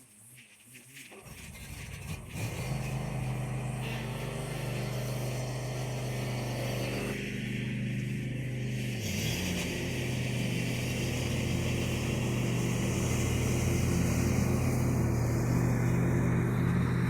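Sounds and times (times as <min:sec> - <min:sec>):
lawn tractor engine running: 0:01.2 - 0:17.0.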